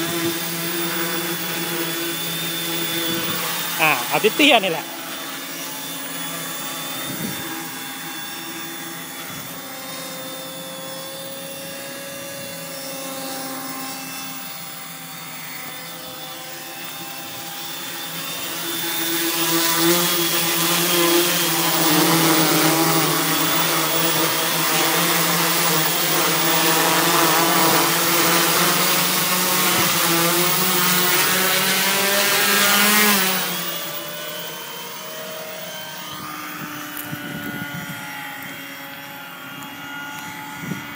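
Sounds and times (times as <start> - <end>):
quadcopter propellers whining: 0.0 - 40.9.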